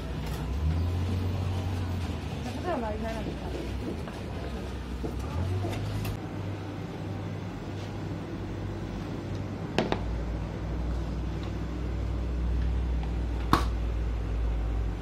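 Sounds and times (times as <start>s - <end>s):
refrigerator low hum: 0.0s - 15.0s.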